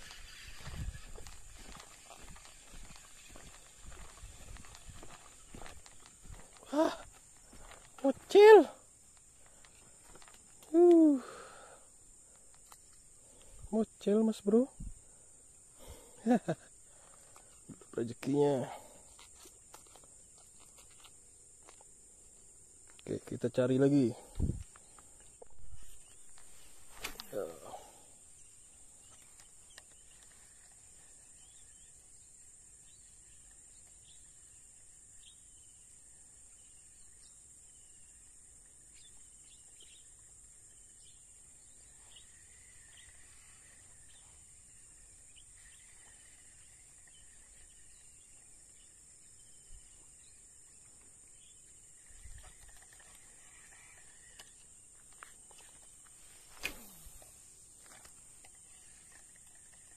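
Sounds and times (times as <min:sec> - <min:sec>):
high-pitched insect drone: 0:00.0 - 0:22.5, 0:27.3 - 0:59.9.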